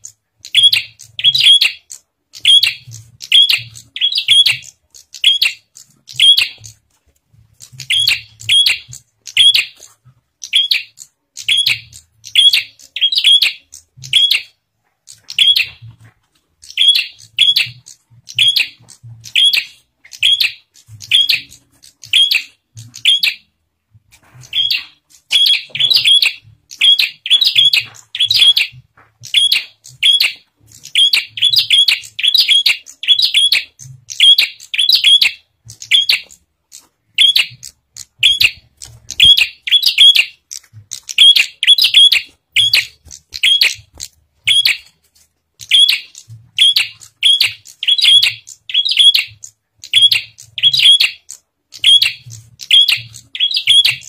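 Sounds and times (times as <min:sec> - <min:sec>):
bird sharp chirps: 0:00.0 - 0:06.8, 0:07.6 - 0:23.5, 0:24.4 - 0:45.0, 0:45.6 - 0:54.0.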